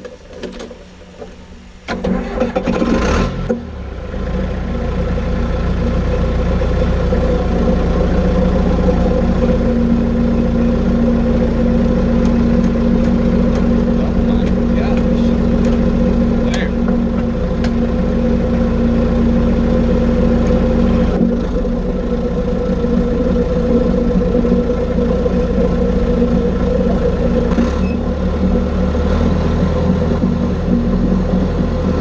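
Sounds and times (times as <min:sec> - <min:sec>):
dozer engine running: 0:00.0 - 0:32.0.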